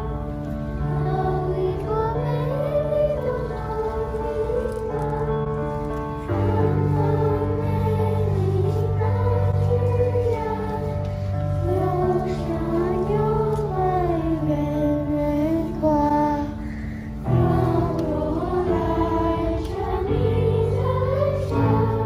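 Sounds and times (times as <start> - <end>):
sustained accompaniment chords: 0.0 - 22.0.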